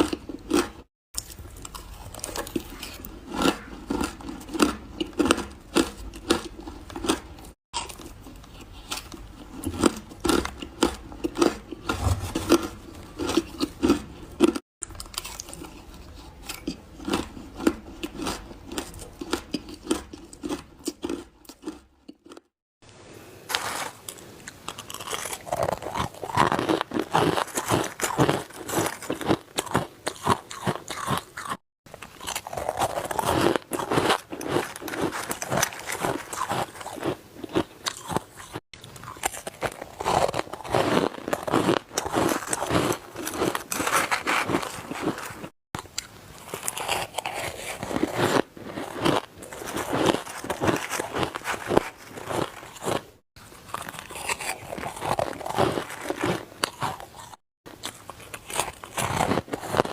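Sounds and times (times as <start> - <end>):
ice being chewed: 0.0 - 22.5, 23.6 - 59.9.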